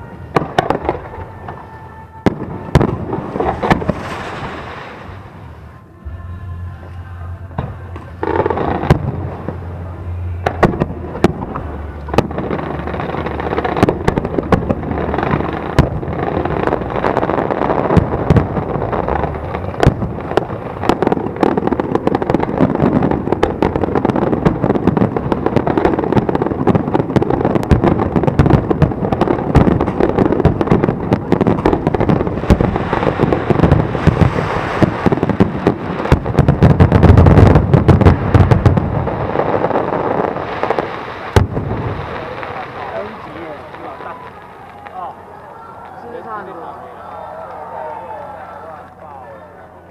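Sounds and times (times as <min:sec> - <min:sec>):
fireworks bursts and crackling: 0:00.0 - 0:05.8, 0:07.6 - 0:49.9.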